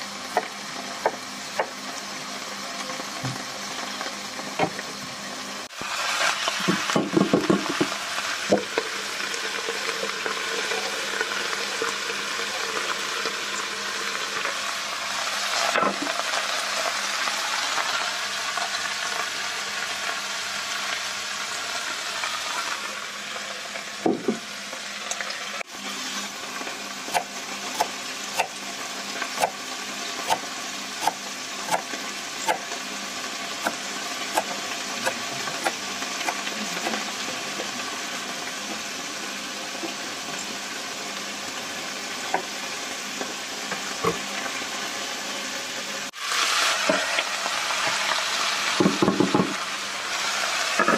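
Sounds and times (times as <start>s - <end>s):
vegetables sizzling in a pot: 0.0s - 50.9s.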